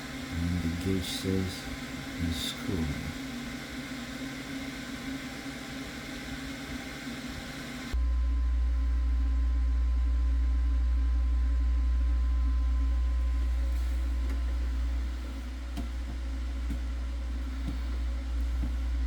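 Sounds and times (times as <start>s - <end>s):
refrigerator compressor hum: 0.0s - 19.0s.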